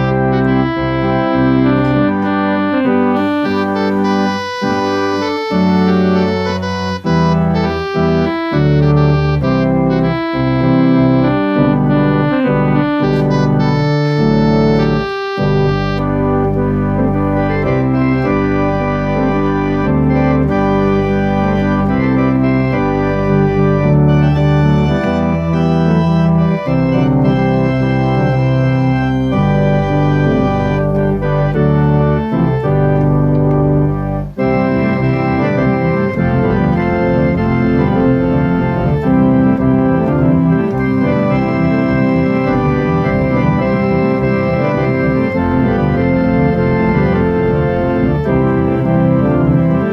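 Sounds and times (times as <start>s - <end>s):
organ chords over deep bass: 0.0s - 49.9s
organ quick light notes: 0.0s - 49.9s.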